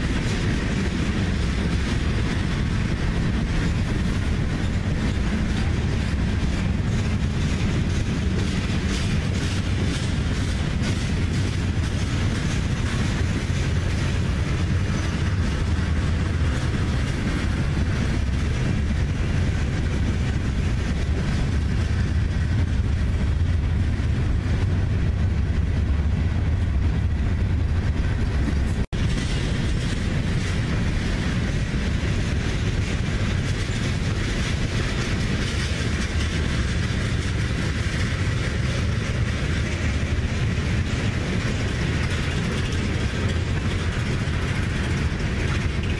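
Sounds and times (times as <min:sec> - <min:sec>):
freight train rumbling past: 0:00.0 - 0:45.9
wheels clacking over rail joints: 0:00.0 - 0:45.9.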